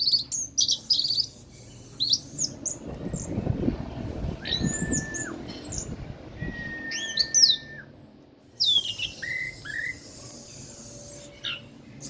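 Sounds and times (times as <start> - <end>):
bird singing whistled song: 0.0 - 3.3, 4.4 - 8.0, 8.6 - 11.7.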